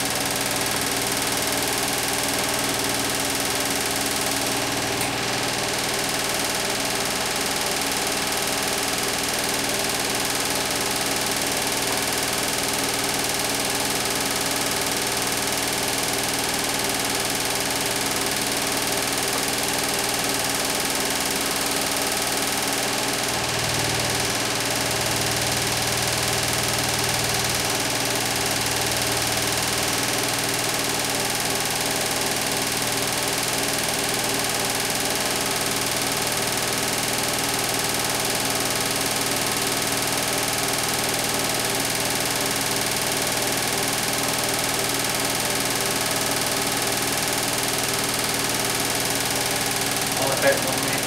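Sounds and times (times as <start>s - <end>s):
washing machine drum spinning: 0.0s - 51.0s.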